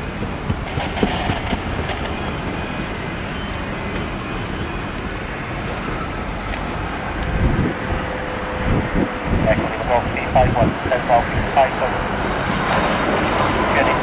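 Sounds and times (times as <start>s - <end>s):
jet engines landing: 0.0s - 14.0s.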